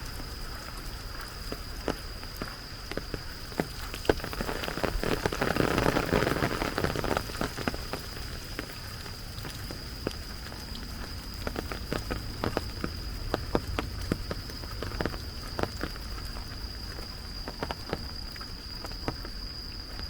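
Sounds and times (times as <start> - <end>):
rain falling: 0.0 - 20.0
raindrop hits: 0.0 - 20.0.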